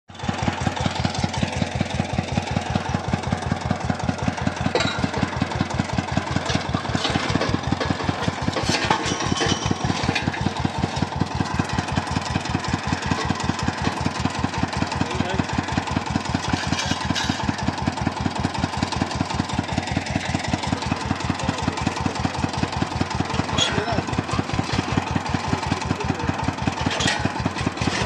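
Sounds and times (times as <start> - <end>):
drilling rig engine pulsing: 0.2 - 28.0.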